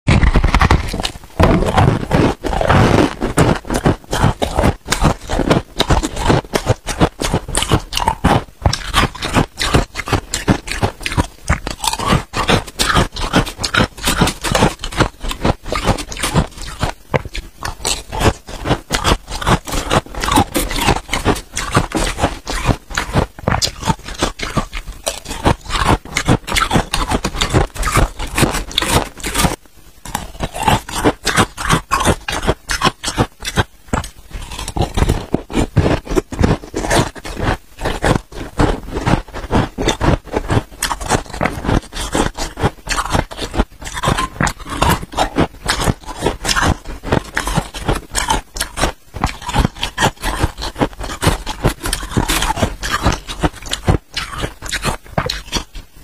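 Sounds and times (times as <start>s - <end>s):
frost crunching being chewed: 0.1s - 56.0s.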